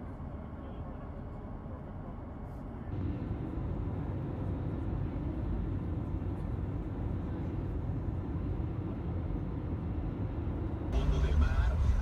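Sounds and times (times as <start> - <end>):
low rumble of motor vehicle: 0.0 - 12.0.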